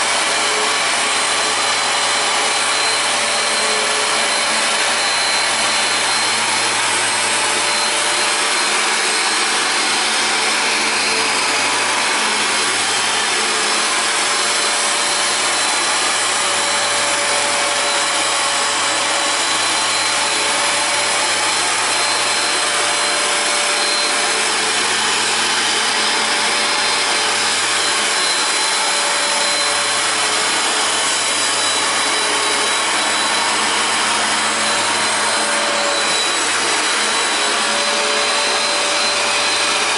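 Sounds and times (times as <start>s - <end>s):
carpet cleaner suction motor whine: 0.0s - 39.9s.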